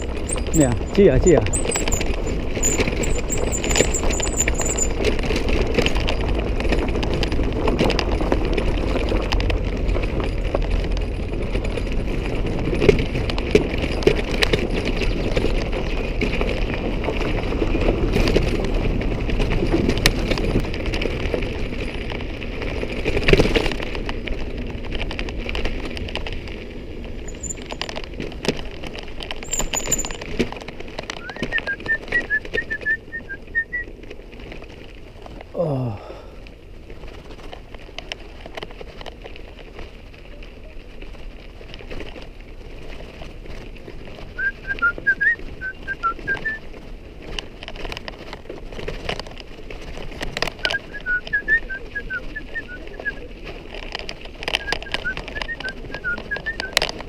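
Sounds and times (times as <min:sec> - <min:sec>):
bike clattering and clicking: 0:00.0 - 0:35.6, 0:36.2 - 0:57.0
mountain bike rolling on rough trail: 0:00.0 - 0:57.0.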